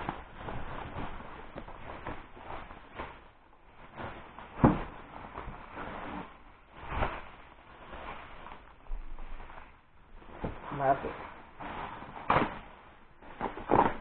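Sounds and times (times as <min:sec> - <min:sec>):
bubble wrap rustling: 0:00.0 - 0:14.0.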